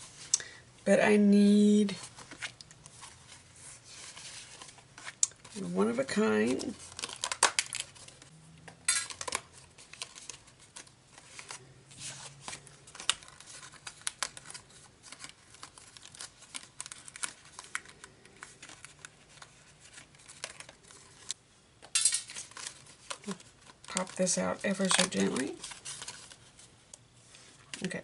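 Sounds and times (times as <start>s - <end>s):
paper rustling: 1.9s - 8.3s, 9.1s - 21.4s, 22.3s - 28.0s.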